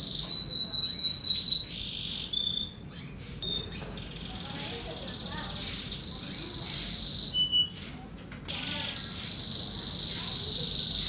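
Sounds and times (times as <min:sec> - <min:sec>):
canary singing trills: 0:00.0 - 0:07.8, 0:08.5 - 0:11.0.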